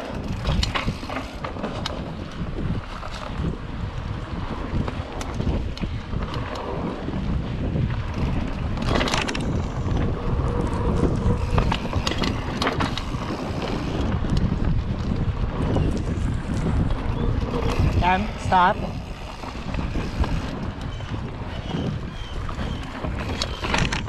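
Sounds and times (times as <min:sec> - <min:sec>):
bike rattling and clicking: 0:00.0 - 0:24.0
wind buffeting microphone: 0:00.0 - 0:24.0.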